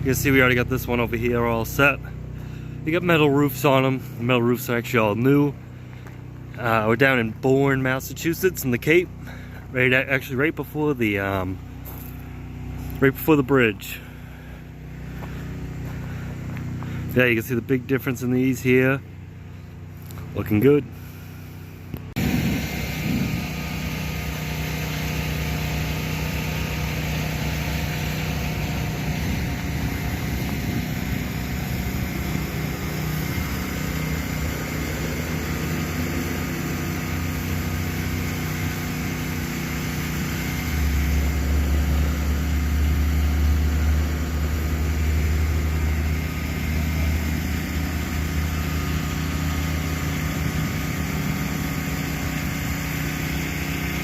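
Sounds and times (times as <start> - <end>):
small engine humming: 0.0 - 54.0.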